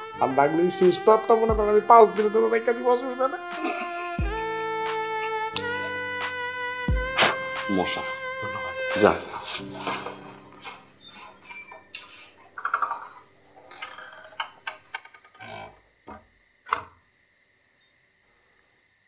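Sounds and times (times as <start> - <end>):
faint cricket chirring: 0.0 - 19.0.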